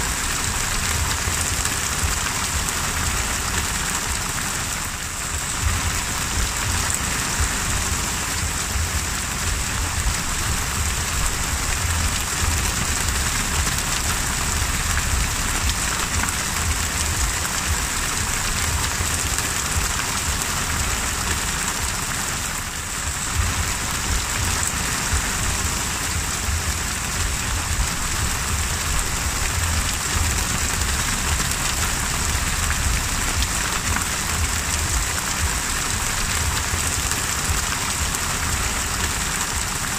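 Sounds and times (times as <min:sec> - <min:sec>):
heavy rain on the sea: 0:00.0 - 0:39.9.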